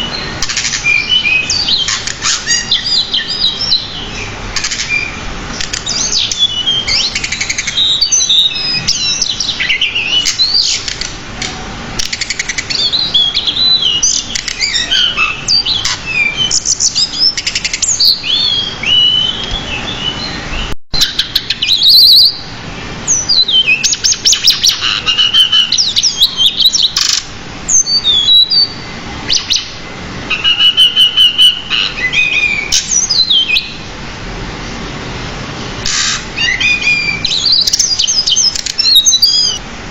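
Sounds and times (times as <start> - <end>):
bird singing varied song: 0.0 - 34.0, 35.8 - 39.6.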